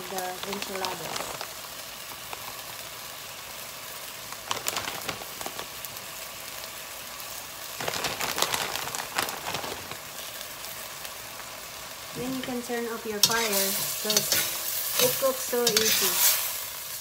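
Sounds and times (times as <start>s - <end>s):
plastic bag crinkling: 0.0s - 3.2s, 4.1s - 6.6s, 7.4s - 17.0s
chicken sizzling in a pot: 0.0s - 17.0s.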